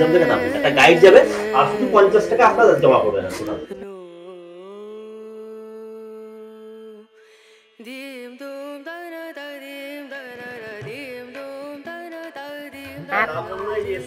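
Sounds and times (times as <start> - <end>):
person singing a slow melody: 0.0 - 13.9.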